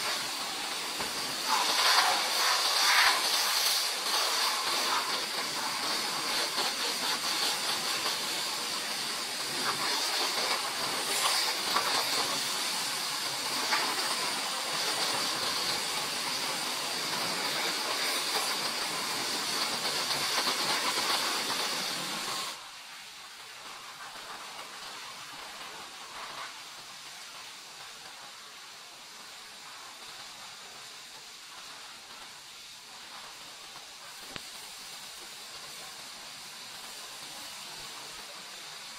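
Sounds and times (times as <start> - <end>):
pressure washer spraying water: 0.0 - 22.6, 23.7 - 38.9.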